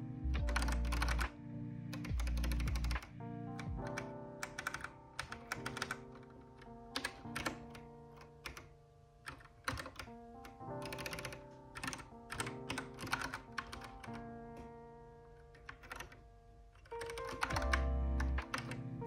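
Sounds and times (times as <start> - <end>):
soft background music: 0.0 - 19.0
mechanical keyboard typing: 0.4 - 1.4, 2.0 - 18.9.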